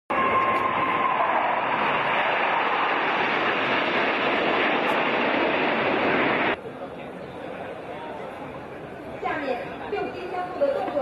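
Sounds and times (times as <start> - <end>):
jet roar: 0.1 - 11.0
jet whine: 0.1 - 11.0.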